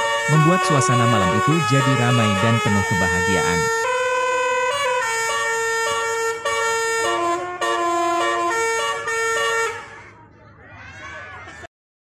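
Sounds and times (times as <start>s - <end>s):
bus horn playing a tune: 0.0s - 9.9s.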